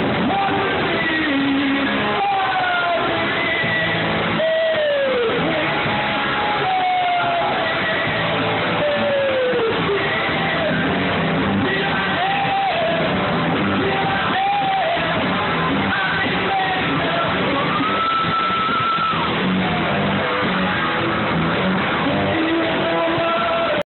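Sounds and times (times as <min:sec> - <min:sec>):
rock band playing: 0:00.0 - 0:23.8
singer on microphone: 0:00.0 - 0:23.9.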